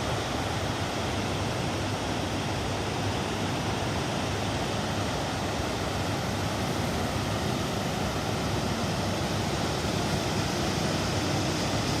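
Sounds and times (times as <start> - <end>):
sea surf: 0.0 - 12.0
wind at the shore: 0.0 - 12.0.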